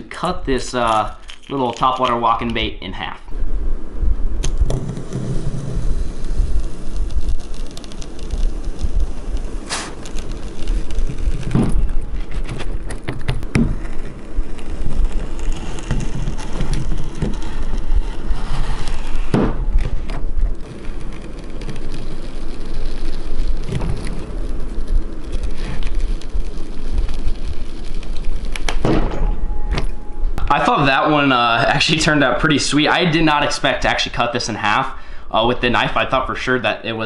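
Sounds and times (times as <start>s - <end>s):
steady low rumble: 0.0s - 34.6s
hot blade crackling hiss: 0.0s - 36.0s.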